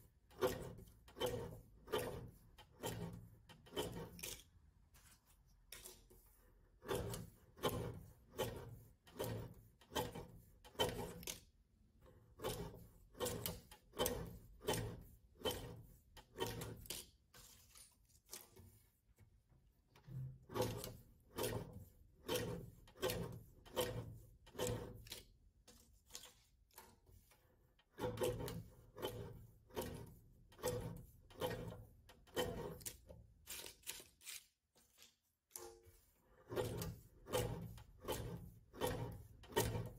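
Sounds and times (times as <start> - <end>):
paper cutter blade knocking: 0.4 - 4.5, 6.8 - 11.5, 12.4 - 18.5, 20.4 - 26.9, 27.9 - 35.7, 36.5 - 39.9.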